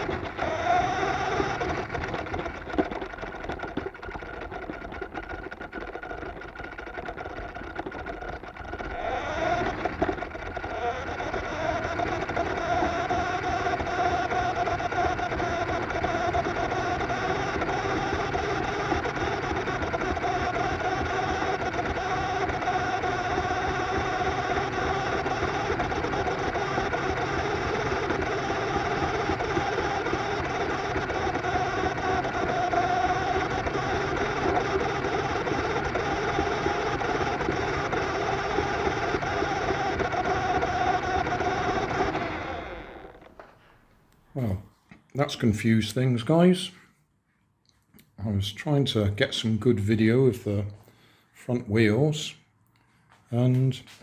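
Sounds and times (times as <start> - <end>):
electric motor and gearbox whine: 0.0 - 46.7.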